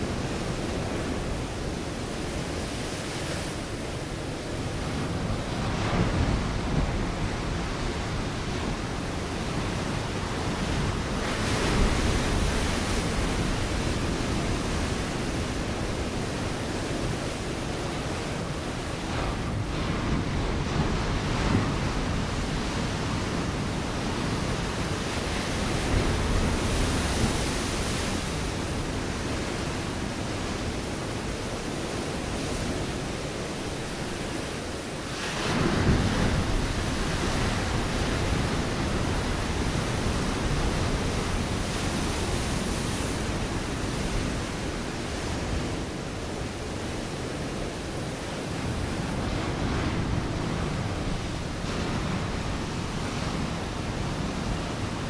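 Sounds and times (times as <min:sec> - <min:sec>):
ocean waves breaking on rocks: 0:00.0 - 0:55.0
wind on microphone: 0:00.0 - 0:55.0.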